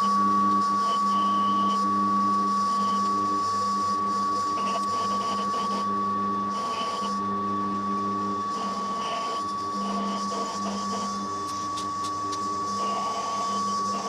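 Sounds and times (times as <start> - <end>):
lower machine hum: 0.0 - 14.0
machine tool high whine: 0.0 - 14.0.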